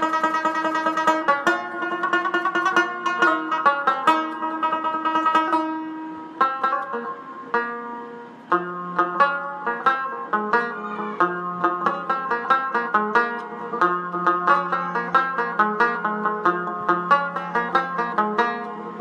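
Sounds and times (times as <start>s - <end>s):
plucked string instrument melody: 0.0s - 19.0s.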